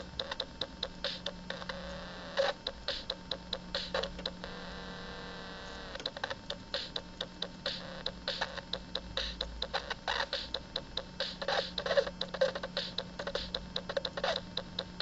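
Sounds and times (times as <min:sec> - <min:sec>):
electronic drum hits and clicks: 0:00.0 - 0:04.6, 0:05.9 - 0:15.0
low electrical hum: 0:00.0 - 0:15.0
steady buzzing tone: 0:00.0 - 0:15.0.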